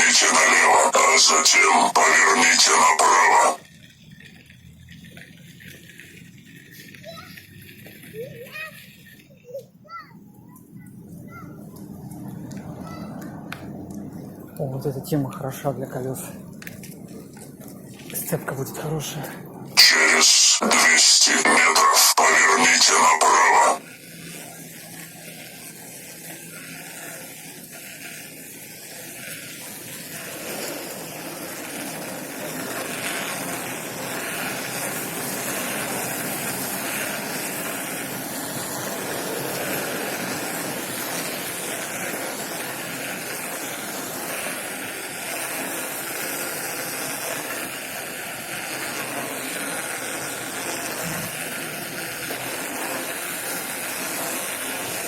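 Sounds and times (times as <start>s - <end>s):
bicycle tyres on road: 0.0s - 55.0s.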